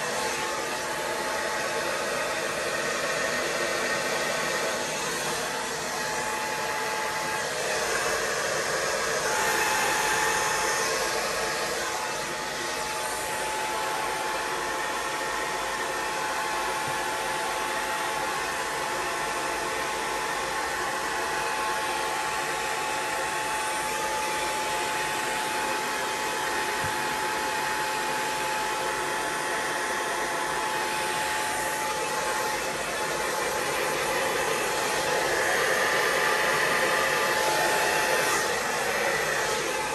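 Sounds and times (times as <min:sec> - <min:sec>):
hot-air blower running: 0:00.0 - 0:39.9.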